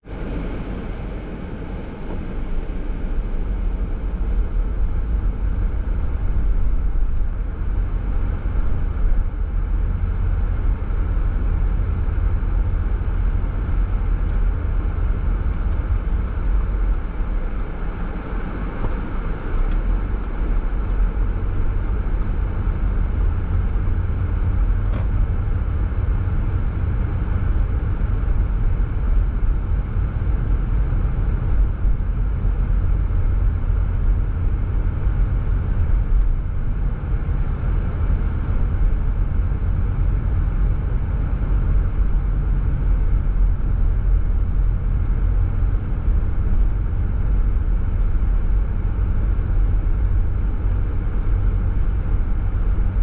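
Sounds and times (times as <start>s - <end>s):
car driving on a road: 0.0s - 53.0s.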